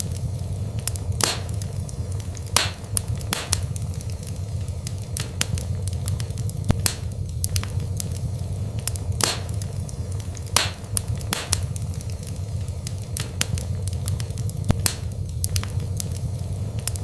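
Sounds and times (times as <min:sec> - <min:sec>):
fire pops: 0:00.0 - 0:17.0
wood fire crackling: 0:00.0 - 0:17.0.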